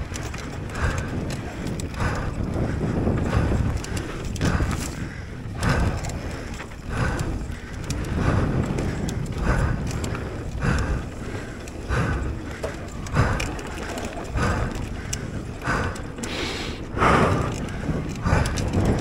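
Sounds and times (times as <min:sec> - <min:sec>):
bike trail rumble: 0:00.0 - 0:19.0
small rattles and clicks: 0:00.0 - 0:19.0
wind noise: 0:00.0 - 0:19.0.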